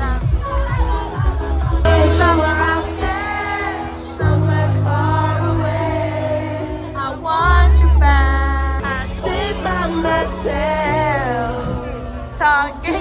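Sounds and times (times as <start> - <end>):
held bass notes: 0.0 - 12.5
person singing over music: 0.0 - 13.0.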